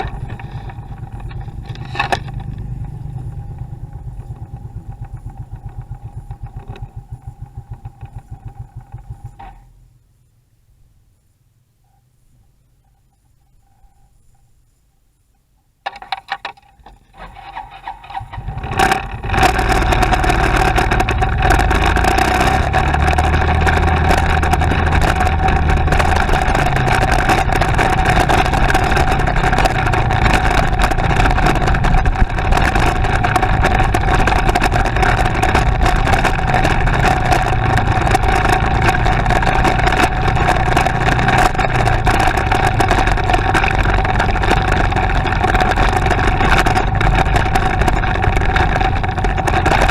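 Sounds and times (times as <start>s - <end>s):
motorcycle engine running: 0.0s - 10.3s, 16.8s - 49.9s
steady rushing noise: 0.0s - 10.3s, 18.2s - 49.9s
constant whine: 0.0s - 49.9s.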